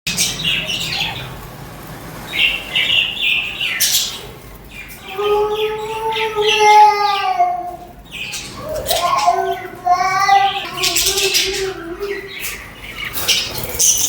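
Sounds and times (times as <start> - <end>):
budgerigars chirping: 0.1 - 1.6, 2.2 - 6.6, 7.9 - 9.8, 10.4 - 14.0.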